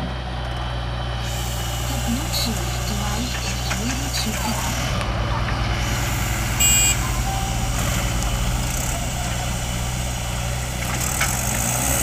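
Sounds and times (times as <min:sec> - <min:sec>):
diesel engines throbbing: 0:00.0 - 0:12.0.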